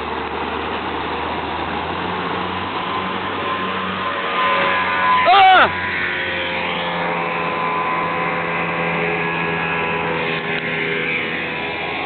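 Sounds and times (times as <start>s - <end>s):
hull hissing on water: 0.0s - 12.0s
speedboat engine running: 0.0s - 12.0s.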